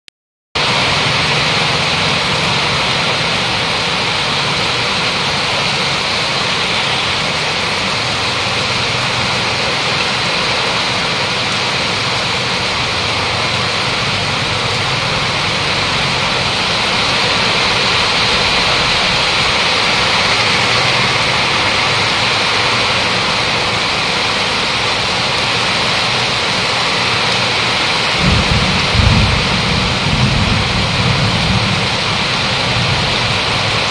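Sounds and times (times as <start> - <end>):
heavy rain pouring: 0.6 - 33.9.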